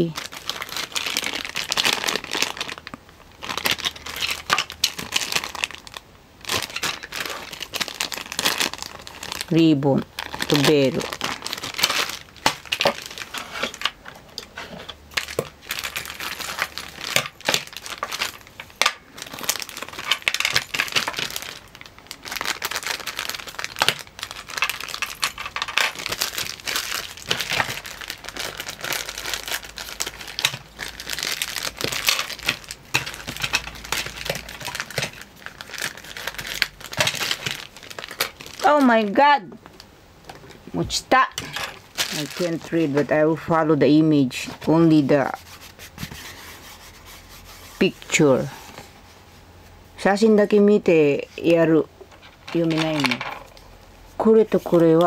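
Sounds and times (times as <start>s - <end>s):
plastic bag crinkling: 0.0s - 40.6s, 41.3s - 43.5s, 52.2s - 53.8s.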